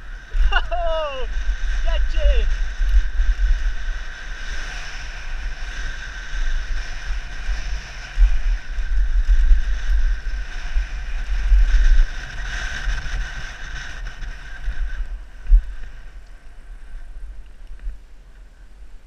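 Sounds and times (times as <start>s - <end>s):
bike rolling on dirt trail: 0.0s - 19.0s
wind buffeting microphone: 0.0s - 19.0s.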